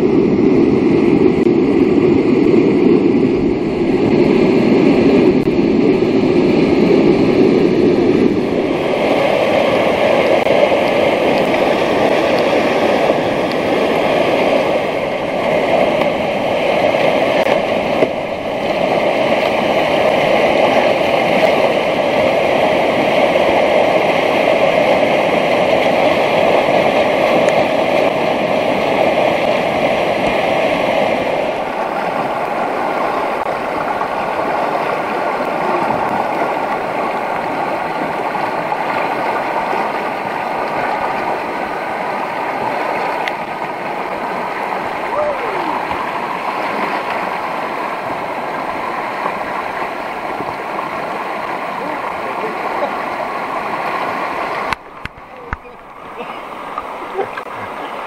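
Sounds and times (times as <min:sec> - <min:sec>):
whitewater rushing through rapid: 0:00.0 - 0:58.0.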